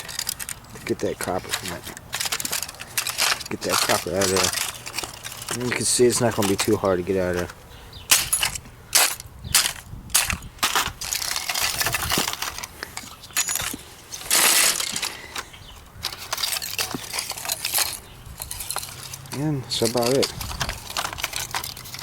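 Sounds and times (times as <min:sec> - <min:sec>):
crunching rasp: 0:00.0 - 0:22.0.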